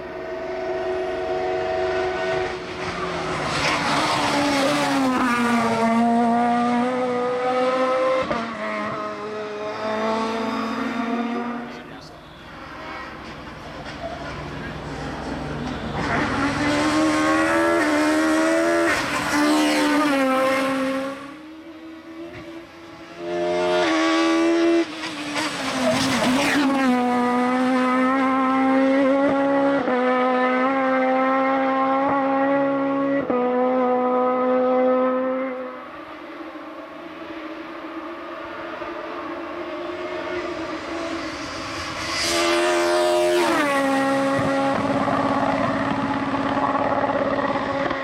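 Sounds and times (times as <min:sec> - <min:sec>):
car engine at high revs: 0:00.0 - 0:48.0.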